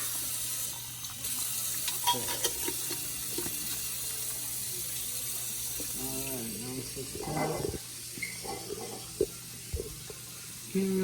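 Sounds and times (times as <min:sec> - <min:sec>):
water running from a tap: 0:00.0 - 0:11.0.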